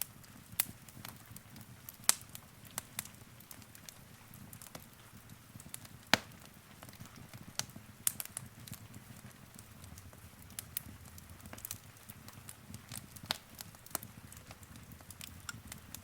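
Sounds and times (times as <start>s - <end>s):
fire pops and snaps: 0.0s - 16.0s
low rumble of flames: 0.0s - 16.0s.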